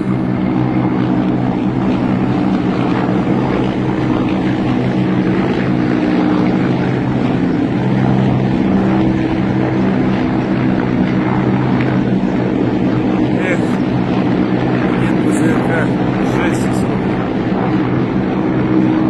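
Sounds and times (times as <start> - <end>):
helicopter rotors droning: 0.0 - 19.0.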